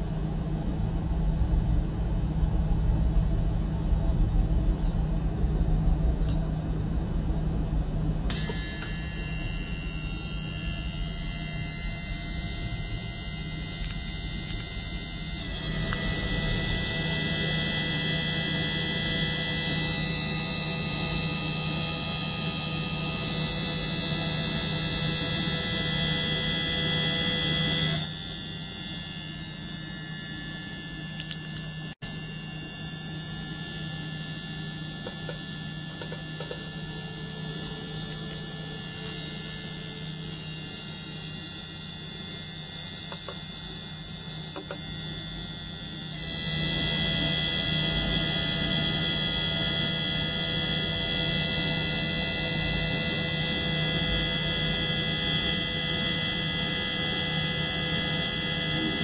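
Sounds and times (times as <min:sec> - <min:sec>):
ultrasonic cleaner humming: 0:07.6 - 0:59.0
small water pump: 0:08.3 - 0:59.0.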